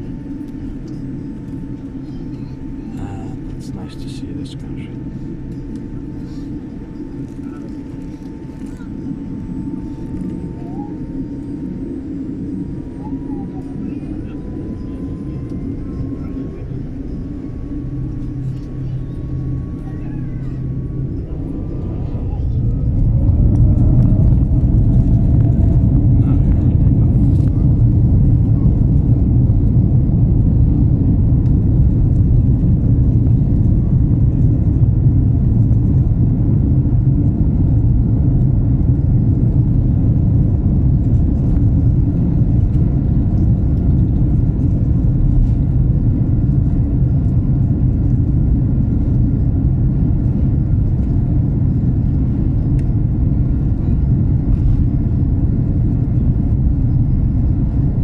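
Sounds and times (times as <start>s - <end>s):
faint steady whine: 0.0s - 58.0s
jet engines rumbling in cabin: 0.0s - 58.0s.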